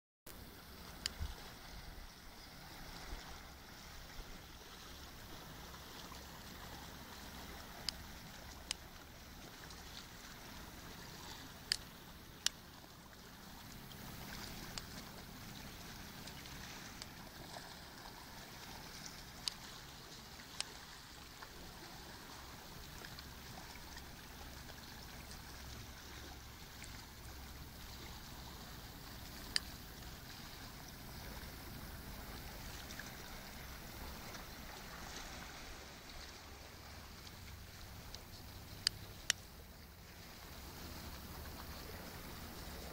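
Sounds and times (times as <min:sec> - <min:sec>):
water lapping against rocks: 0:00.3 - 0:42.9.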